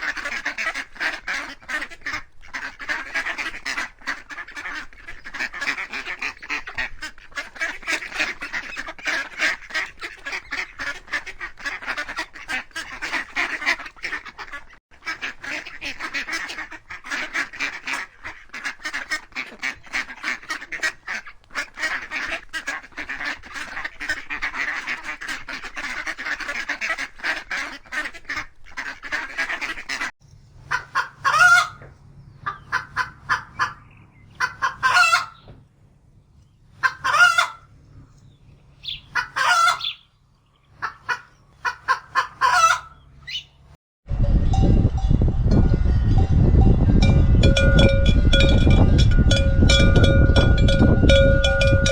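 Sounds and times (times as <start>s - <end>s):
geese honking: 0.0s - 35.6s, 36.7s - 40.1s, 40.7s - 43.7s.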